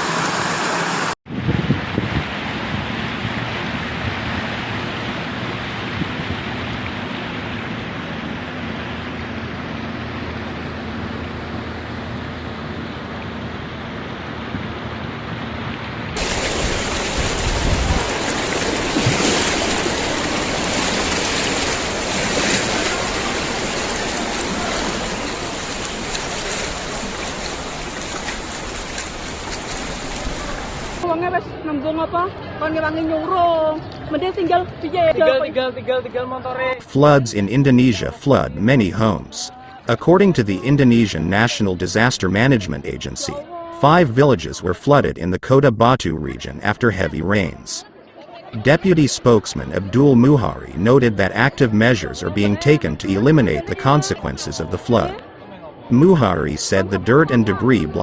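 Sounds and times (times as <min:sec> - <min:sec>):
water rushing: 0:00.0 - 0:31.2, 0:36.8 - 0:47.8, 0:48.6 - 0:55.2, 0:55.9 - 0:58.0.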